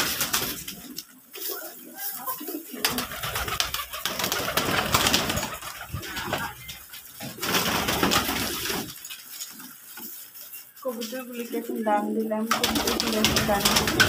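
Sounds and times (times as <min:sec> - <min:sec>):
pigeons cooing: 0:00.0 - 0:09.9, 0:12.5 - 0:14.0
birds pecking grain in straw: 0:00.0 - 0:14.0.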